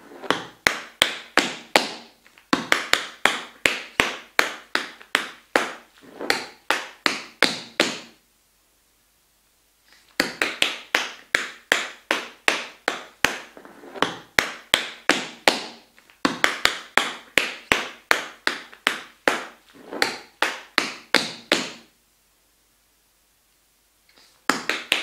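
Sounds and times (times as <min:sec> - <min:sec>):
tap shoes on wooden floor: 0:00.1 - 0:08.2, 0:10.1 - 0:21.9, 0:24.2 - 0:25.0.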